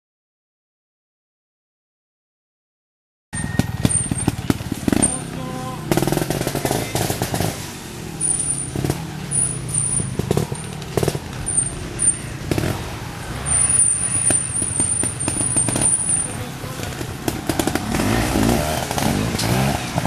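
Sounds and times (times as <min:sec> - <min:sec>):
motorcycle engine revving: 0:03.4 - 0:20.0.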